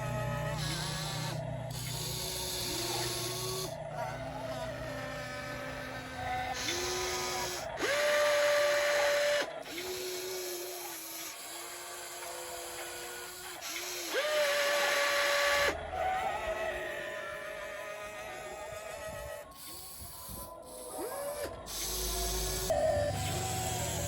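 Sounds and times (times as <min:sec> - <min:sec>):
toy excavator electric motors whining: 0:00.0 - 0:24.0.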